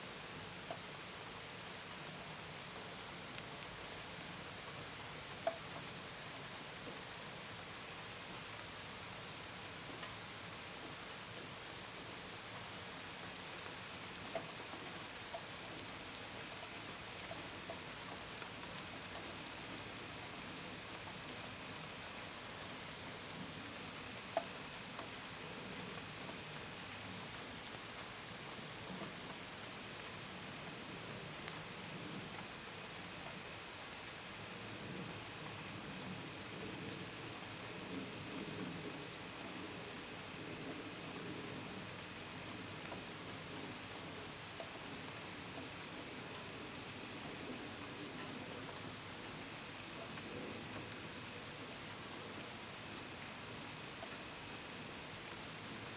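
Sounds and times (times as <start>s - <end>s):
gentle rain: 0.0s - 55.9s
crickets chirping: 7.3s - 55.9s.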